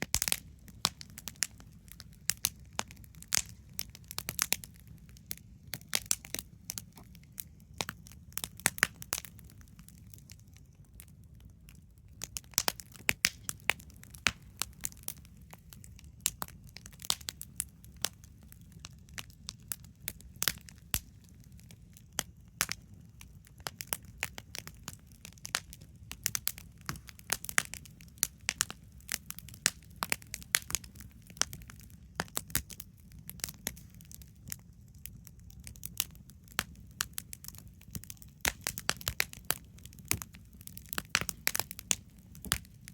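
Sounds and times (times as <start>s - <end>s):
wood campfire crackling: 0.0s - 42.9s.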